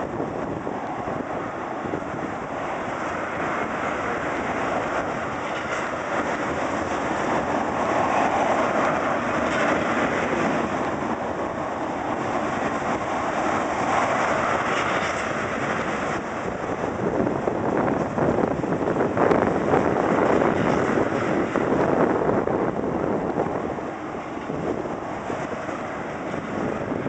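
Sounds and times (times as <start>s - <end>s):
freight train rolling past: 0.0s - 27.0s.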